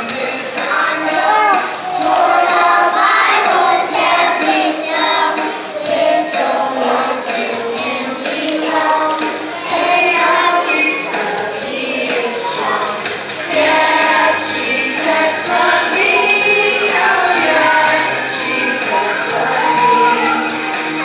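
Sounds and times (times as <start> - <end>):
children singing together: 0.0 - 21.0.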